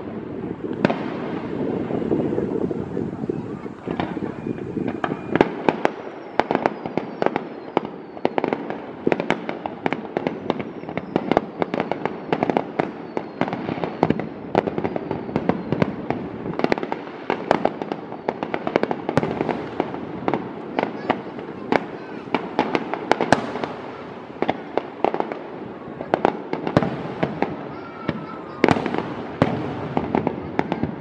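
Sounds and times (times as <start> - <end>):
fireworks bangs and cracks: 0.0 - 31.0
fireworks falling whistles: 0.0 - 31.0.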